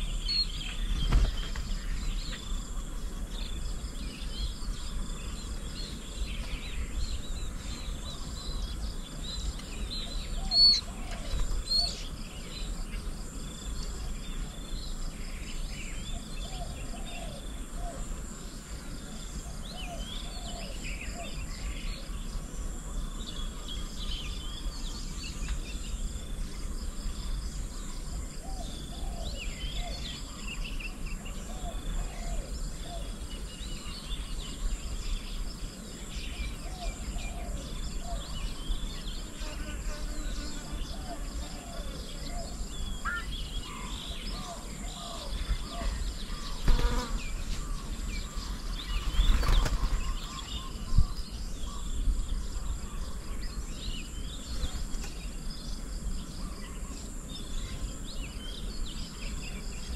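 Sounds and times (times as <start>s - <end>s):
insects chorus: 0.0s - 59.9s
small birds chirping: 0.0s - 59.9s.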